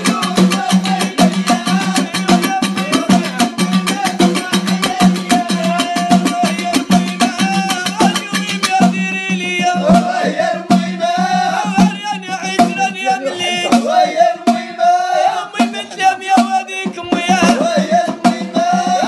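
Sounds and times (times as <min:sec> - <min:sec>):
hand percussion backing track: 0:00.0 - 0:19.0
man singing: 0:00.0 - 0:19.0.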